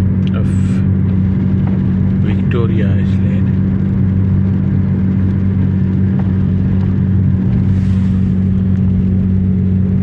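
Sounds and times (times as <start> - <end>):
car engine and tyres droning: 0.0 - 10.0.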